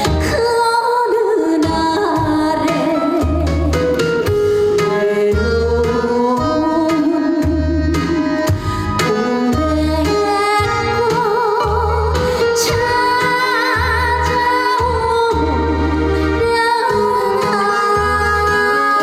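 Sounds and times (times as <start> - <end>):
woman singing with vibrato: 0.0 - 19.0
instrumental music with bass beat: 1.6 - 19.0.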